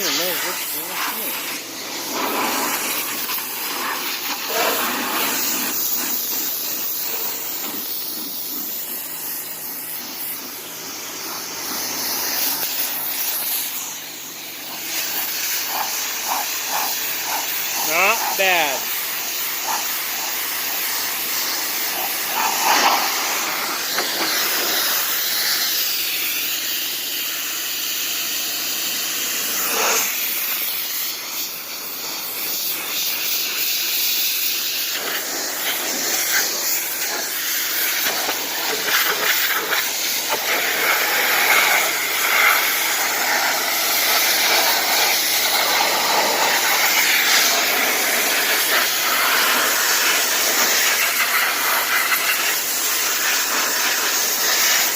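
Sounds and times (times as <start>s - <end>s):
pressure washer spray hissing: 0.0s - 54.9s.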